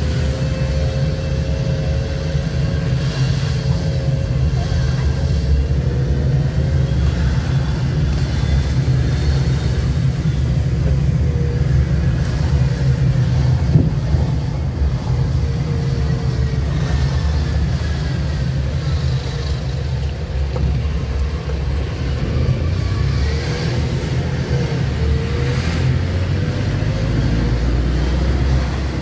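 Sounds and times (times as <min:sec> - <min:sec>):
car driving on road: 0:00.0 - 0:29.0.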